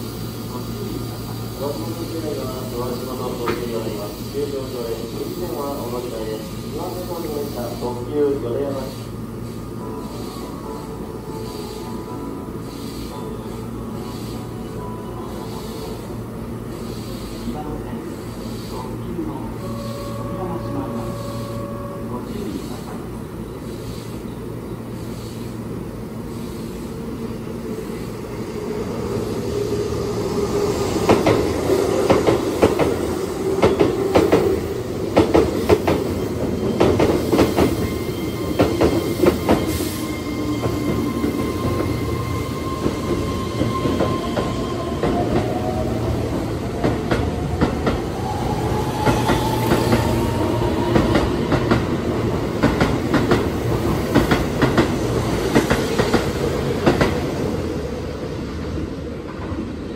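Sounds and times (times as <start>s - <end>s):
electric train whine rising: 8.6s - 24.1s, 24.8s - 58.8s.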